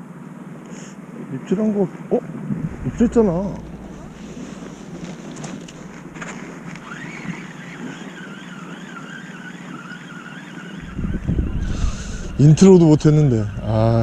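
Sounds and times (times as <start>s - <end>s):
electric reel motor whine: 2.4s - 14.0s.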